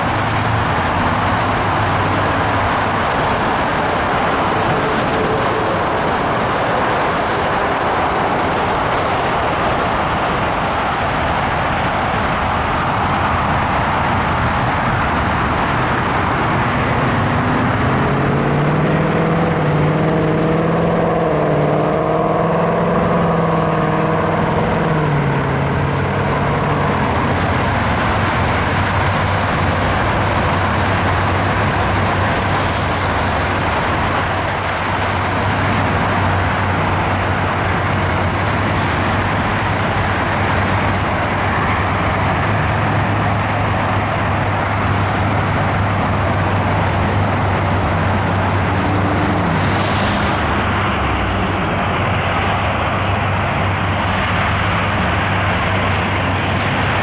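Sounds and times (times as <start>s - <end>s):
vehicle engine passing by: 0.0s - 10.2s, 12.2s - 57.0s
low engine hum: 0.0s - 57.0s
road traffic passing: 0.0s - 57.0s.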